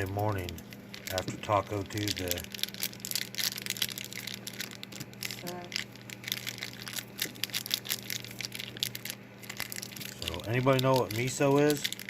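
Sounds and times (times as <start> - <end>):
low electrical hum: 0.0 - 12.0
plastic packaging crinkling: 0.0 - 12.0.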